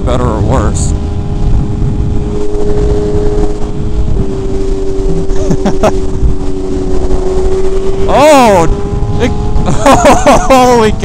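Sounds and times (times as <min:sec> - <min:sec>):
heavy wind rush: 0:00.0 - 0:11.0
motorcycle engine cruising: 0:00.0 - 0:11.0.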